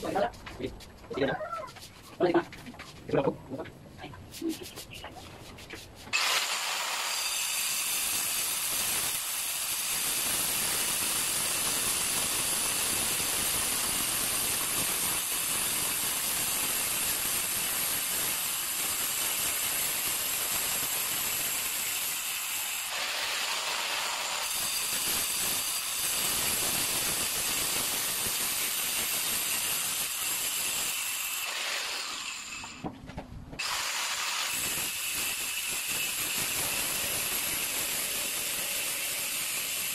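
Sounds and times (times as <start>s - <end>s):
angle grinder cutting tile: 6.1s - 32.8s, 33.6s - 39.9s.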